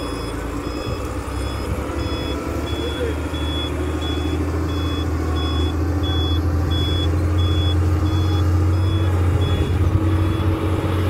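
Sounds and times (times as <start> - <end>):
diesel engine running: 0.0 - 11.0
truck reverse alarm beeping: 0.0 - 11.0.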